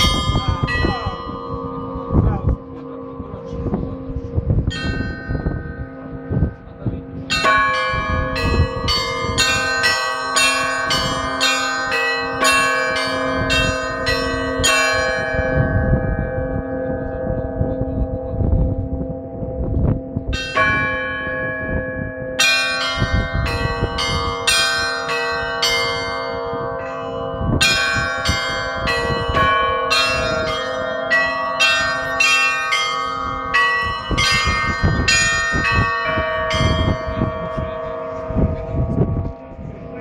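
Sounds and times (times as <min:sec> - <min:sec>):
large bells ringing: 0:00.0 - 0:40.0.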